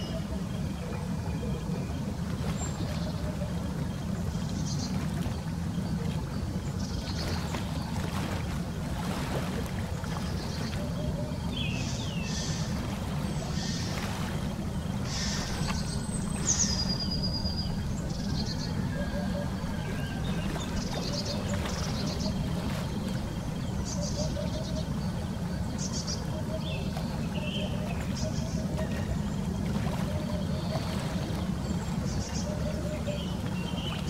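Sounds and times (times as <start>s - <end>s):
low wind rumble: 0.0s - 34.0s
small water splashes: 0.0s - 34.0s
ducks dabbling in water: 5.0s - 34.0s.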